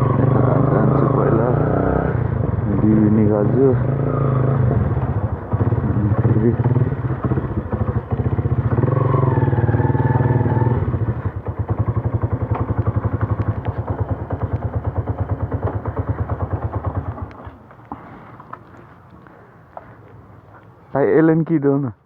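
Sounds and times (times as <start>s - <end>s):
motorcycle engine idling: 2.2s - 20.3s.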